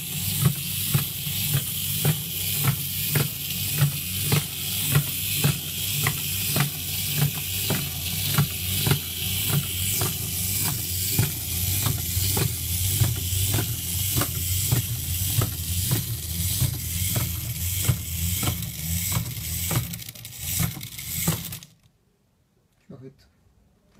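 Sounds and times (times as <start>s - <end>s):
clockwork motor whirring: 0.0s - 21.9s.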